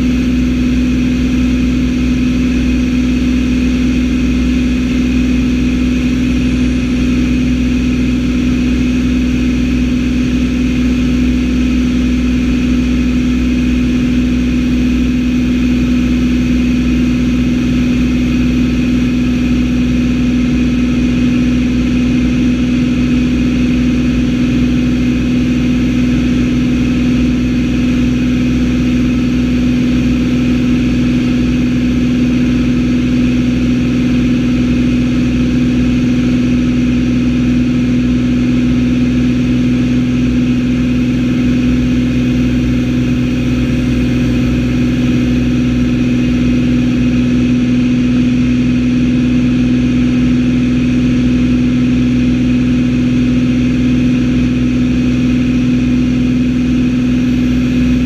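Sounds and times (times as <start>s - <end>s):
propeller airplane engine drone: 0.0s - 58.0s.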